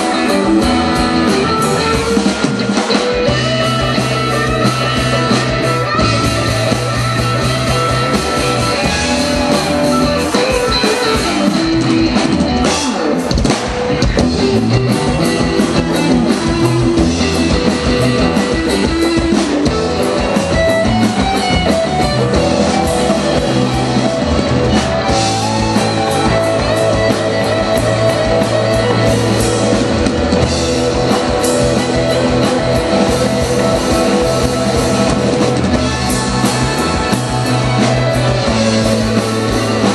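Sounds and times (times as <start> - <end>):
electric guitar line: 0.0 - 39.9
live rock band playing: 0.0 - 39.9.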